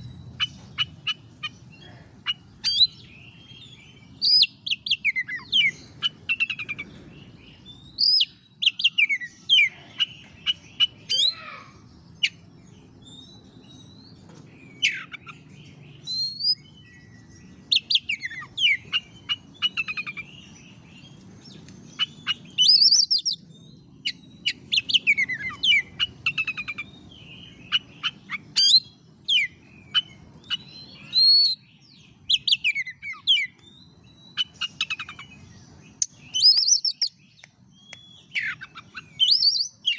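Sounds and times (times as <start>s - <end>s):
bird singing whistles and trills: 0.0s - 11.5s, 13.0s - 39.9s.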